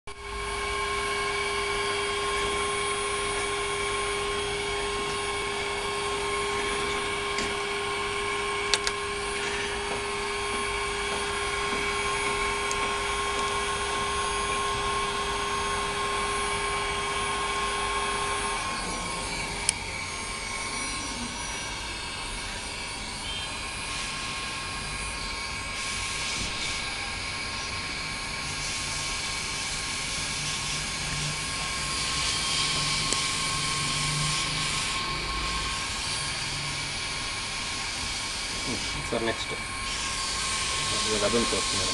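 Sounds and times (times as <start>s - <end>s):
mechanical whir: 0.1s - 41.9s.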